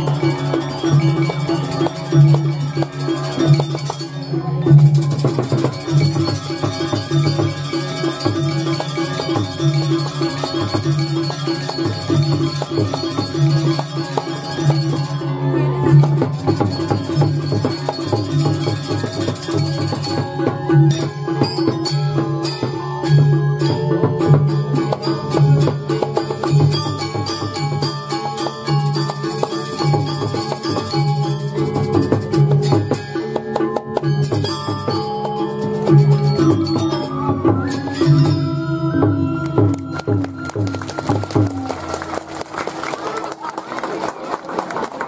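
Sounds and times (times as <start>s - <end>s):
drum strokes: 0.0s - 15.3s, 15.9s - 42.3s
ringing struck metal notes: 0.0s - 39.8s.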